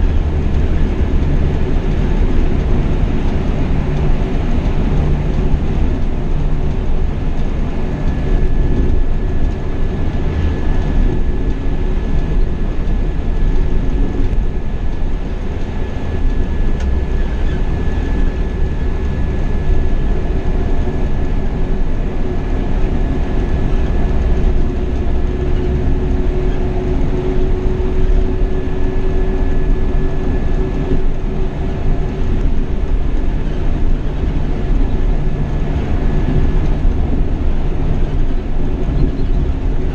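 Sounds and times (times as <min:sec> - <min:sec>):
coach rumbling on highway: 0:00.0 - 0:39.9.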